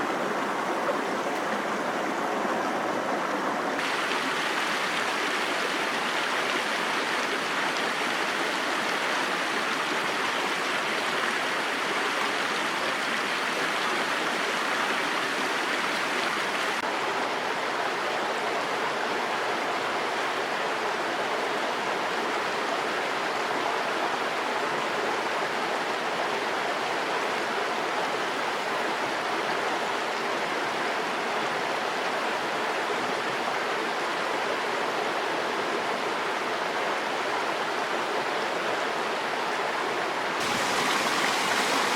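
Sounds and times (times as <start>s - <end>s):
mountain stream rushing: 0.0s - 41.9s.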